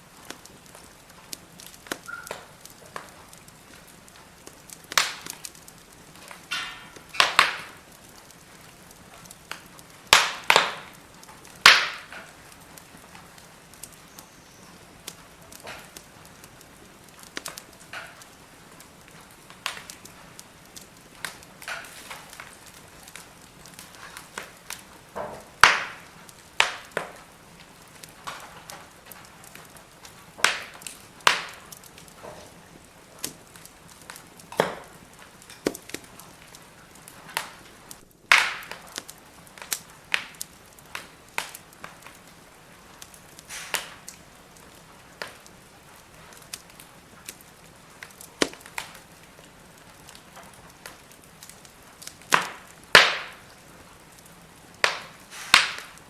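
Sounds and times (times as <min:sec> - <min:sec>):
faint steady hiss: 0:00.0 - 0:56.0
firewood crackling and popping: 0:00.0 - 0:56.0.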